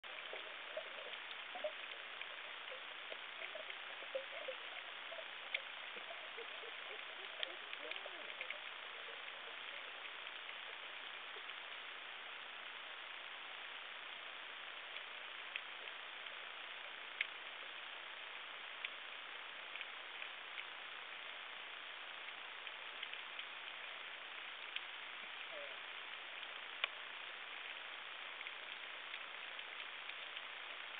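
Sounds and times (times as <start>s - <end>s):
faint clicks: 0.0s - 13.3s, 14.1s - 30.9s
underwater crackling hiss: 0.1s - 30.9s.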